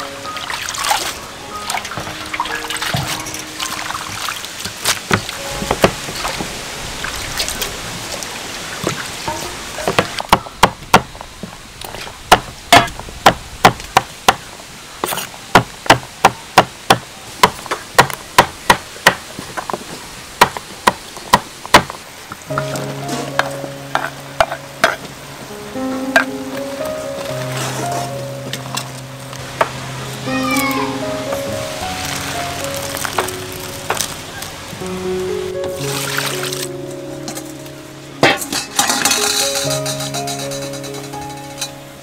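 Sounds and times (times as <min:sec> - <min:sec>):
water trickling and splashing: 0:00.0 - 0:42.0.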